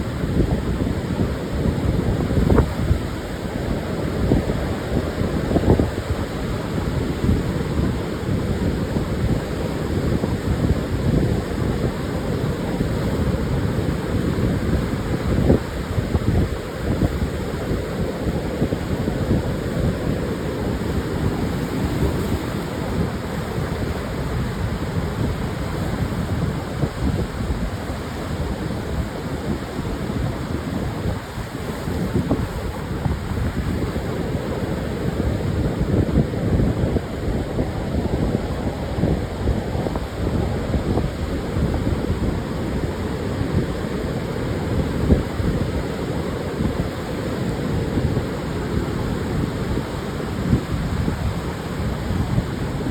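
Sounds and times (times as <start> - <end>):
surf washing onto beach: 0.0 - 52.9
wind buffeting microphone: 0.0 - 52.9.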